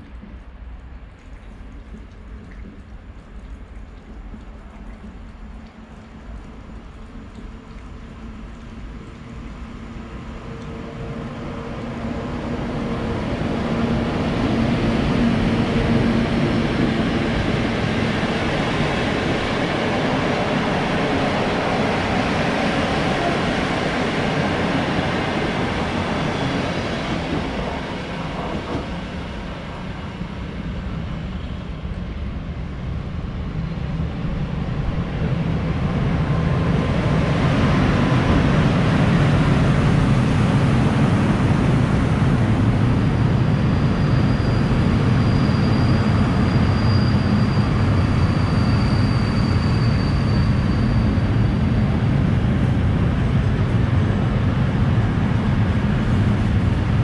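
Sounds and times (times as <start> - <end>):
passenger train passing at speed: 2.6 - 57.0
freight train running close by: 4.2 - 57.0.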